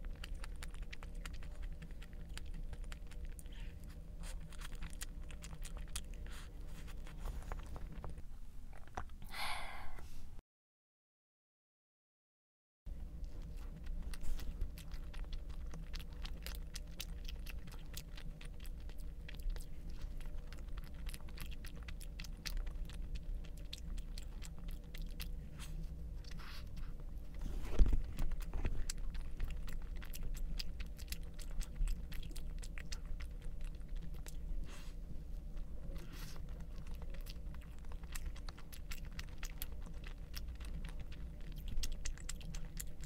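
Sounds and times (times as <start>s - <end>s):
person chewing food: 0.0s - 9.2s, 13.0s - 43.0s.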